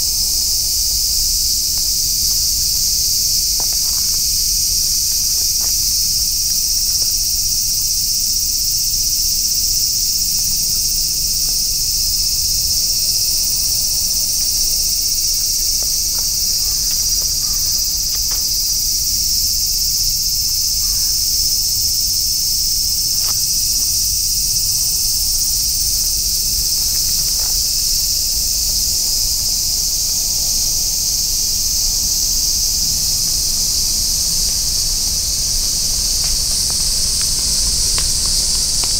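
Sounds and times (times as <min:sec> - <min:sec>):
insects chorus drone: 0:00.0 - 0:38.9.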